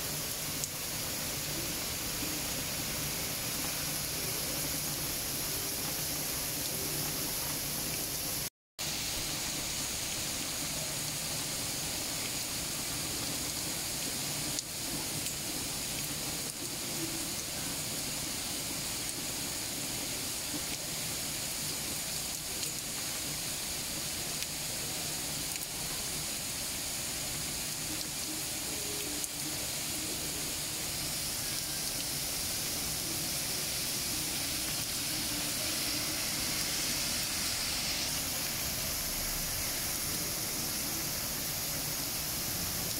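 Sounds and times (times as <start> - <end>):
heavy rain hissing: 0.0 - 42.9.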